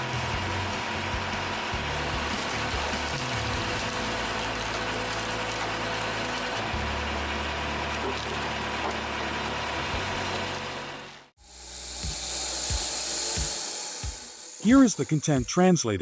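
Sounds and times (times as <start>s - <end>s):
log splitter humming: 0.0s - 15.7s.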